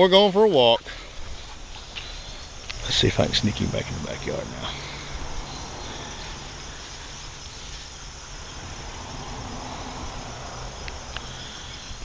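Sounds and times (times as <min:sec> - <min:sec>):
faint high insect drone: 0:00.0 - 0:12.0.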